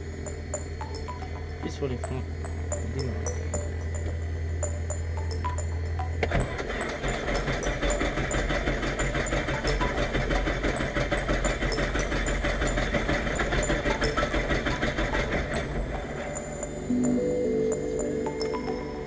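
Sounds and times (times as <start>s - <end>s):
light aircraft engine running: 0.0s - 19.0s.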